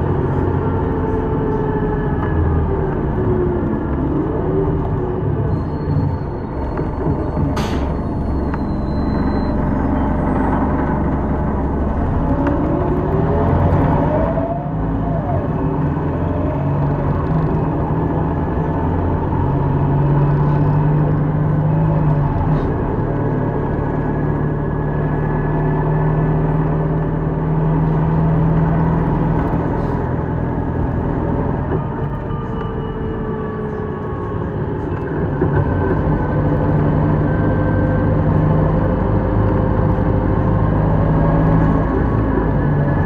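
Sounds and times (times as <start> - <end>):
bus engine hum: 0.0 - 43.0
road noise: 0.0 - 43.0.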